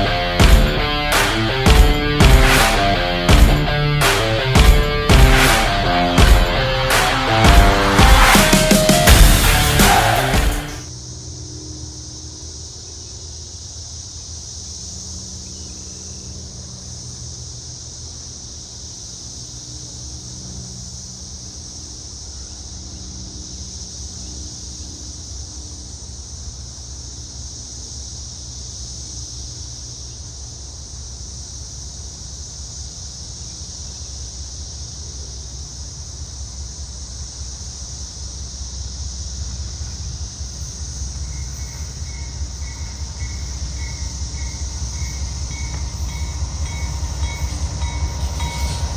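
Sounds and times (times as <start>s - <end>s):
faint hum: 0.0s - 48.9s
insect chorus: 0.0s - 48.9s.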